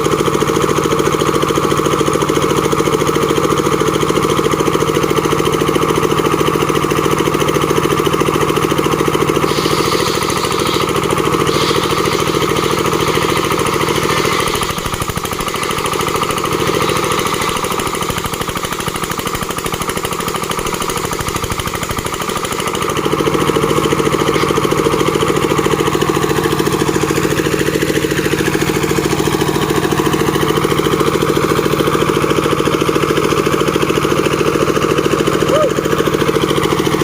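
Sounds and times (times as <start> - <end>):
sawing machine engine running: 0.0 - 37.0.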